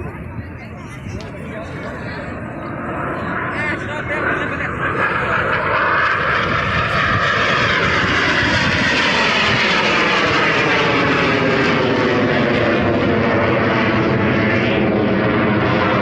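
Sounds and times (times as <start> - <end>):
aircraft flying past: 0.0 - 16.0.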